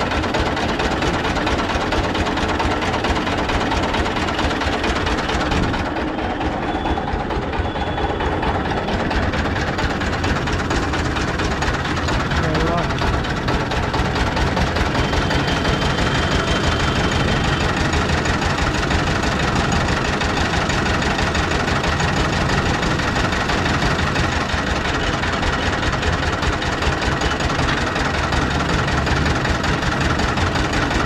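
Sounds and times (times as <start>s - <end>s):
sugarcane juice crusher running: 0.0s - 31.0s.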